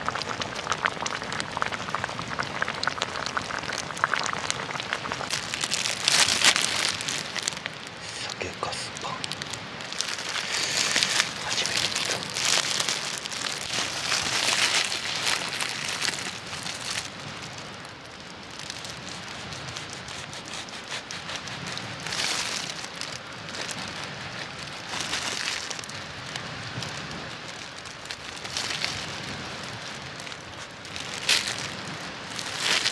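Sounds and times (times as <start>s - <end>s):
wood fire crackling and hissing: 0.0s - 32.9s.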